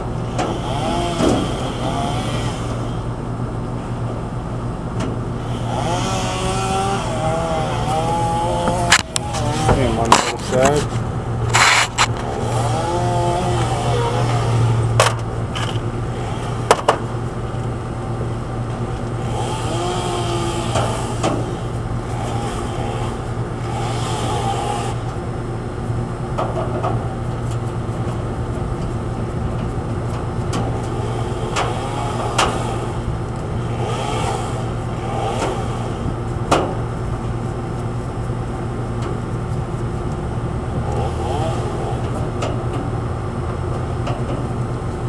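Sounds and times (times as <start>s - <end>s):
low machinery hum: 0.0s - 45.0s.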